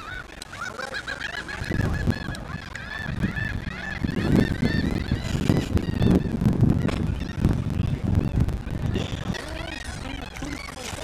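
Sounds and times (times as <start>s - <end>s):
flock of birds honking: 0.0s - 11.0s
low rumbling noise: 0.0s - 11.0s.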